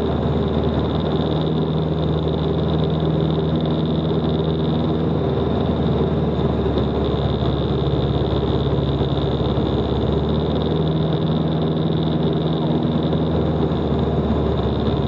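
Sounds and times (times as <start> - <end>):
airflow noise over canopy: 0.0 - 15.0
light aircraft engine and propeller: 0.0 - 15.0.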